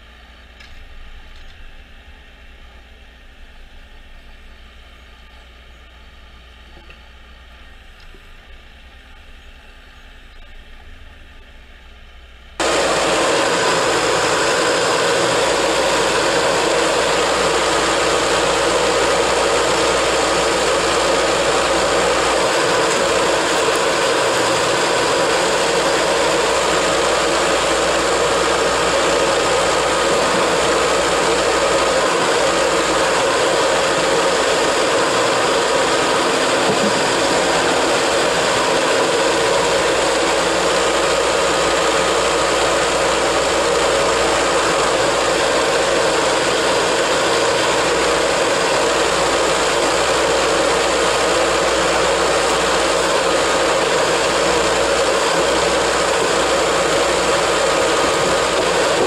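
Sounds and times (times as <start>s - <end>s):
machine engine running: 0.0s - 59.0s.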